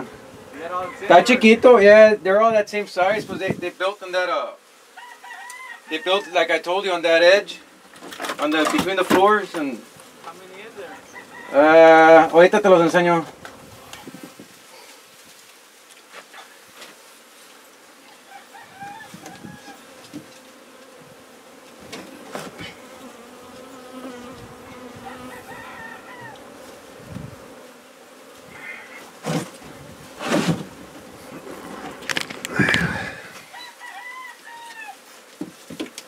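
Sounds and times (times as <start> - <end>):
bees buzzing: 0.0 - 15.9, 16.5 - 36.0.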